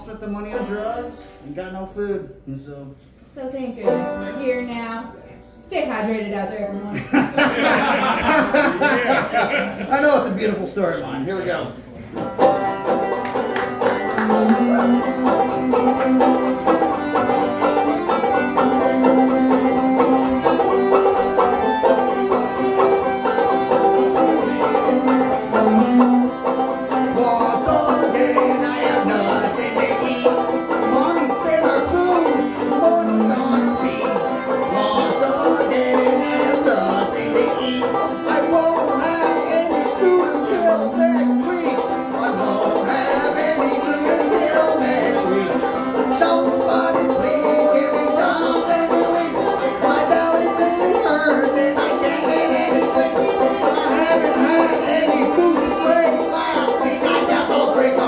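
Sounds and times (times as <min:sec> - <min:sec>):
banjo: 0:00.0 - 0:02.2, 0:03.2 - 0:58.0
band playing country song: 0:07.0 - 0:58.0.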